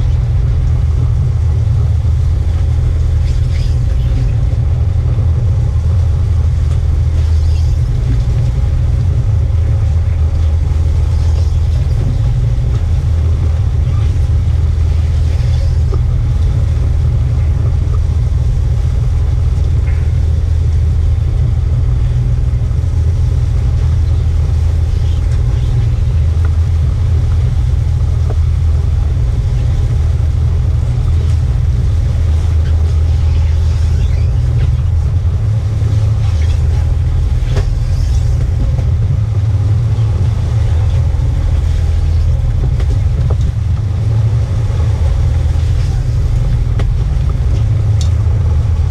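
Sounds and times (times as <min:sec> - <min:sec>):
boat diesel engine running: 0:00.0 - 0:48.9.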